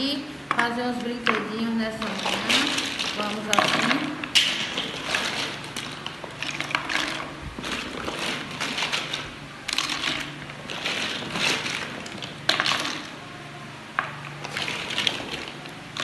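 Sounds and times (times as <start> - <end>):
plastic toy blocks clattering: 2.0 - 13.2, 14.0 - 16.0.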